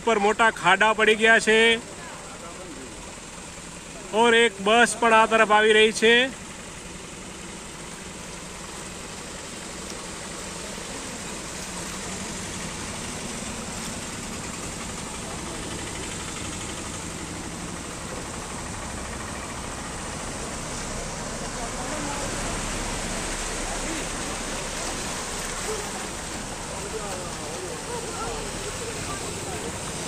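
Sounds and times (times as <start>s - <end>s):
vehicle engine running: 0.0s - 30.0s
water washing: 0.1s - 30.0s.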